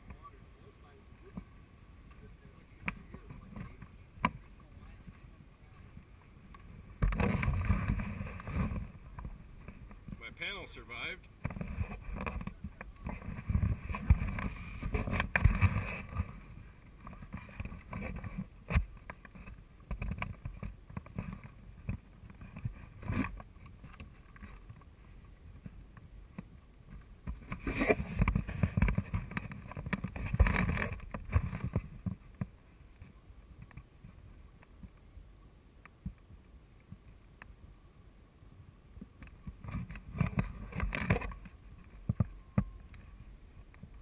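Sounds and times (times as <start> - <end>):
wind rumbling on microphone: 0.0 - 44.0.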